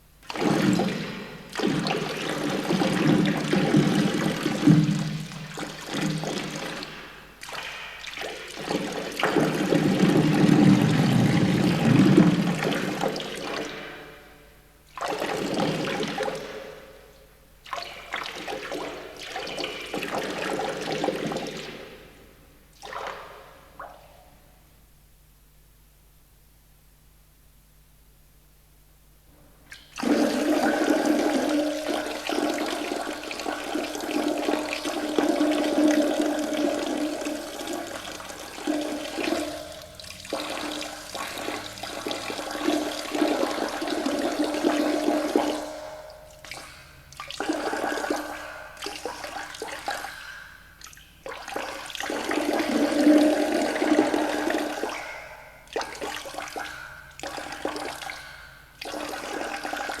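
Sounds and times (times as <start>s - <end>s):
toilet flushing: 0.2s - 14.2s, 15.0s - 16.8s, 17.7s - 22.2s, 29.7s - 50.4s, 51.2s - 60.0s.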